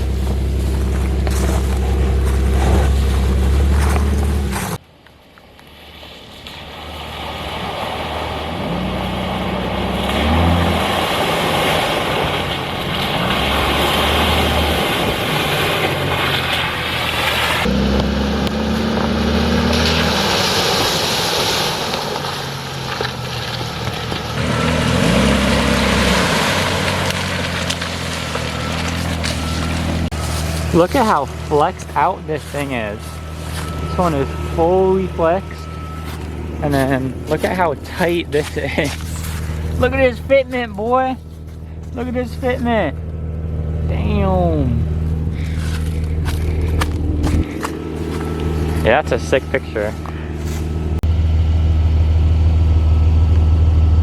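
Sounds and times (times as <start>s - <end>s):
engine revving: 0.0s - 4.8s, 6.8s - 54.0s.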